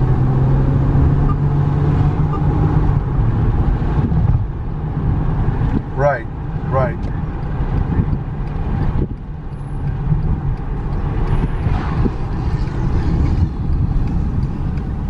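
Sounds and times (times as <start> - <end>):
car cabin road rumble: 0.0 - 15.0.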